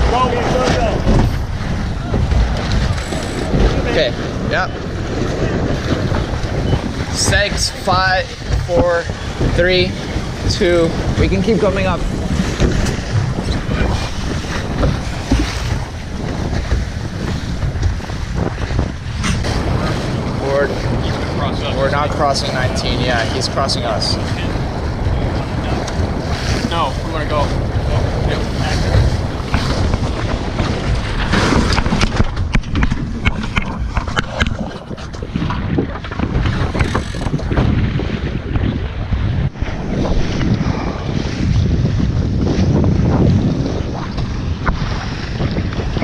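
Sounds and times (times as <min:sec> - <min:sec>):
water rushing along hull: 0:00.0 - 0:46.0
wind buffeting microphone: 0:00.0 - 0:46.0.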